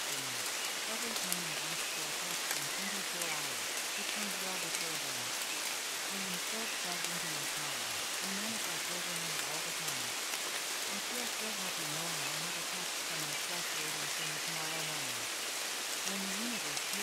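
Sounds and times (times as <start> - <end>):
faint low voice speaking: 0.0 - 5.4, 6.1 - 10.1, 10.9 - 15.3, 16.0 - 17.0
steady rain: 0.0 - 17.0.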